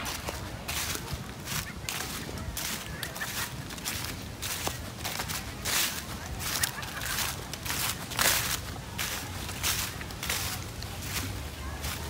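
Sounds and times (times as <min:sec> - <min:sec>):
footsteps through dry leaves: 0:00.0 - 0:12.0.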